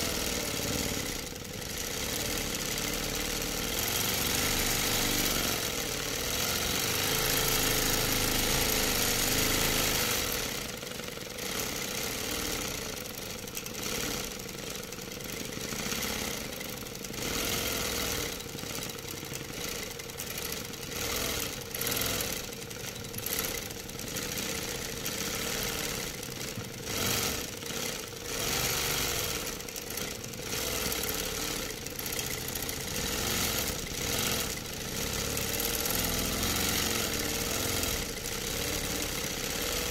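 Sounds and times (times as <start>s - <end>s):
quilting machine humming: 0.0s - 39.9s.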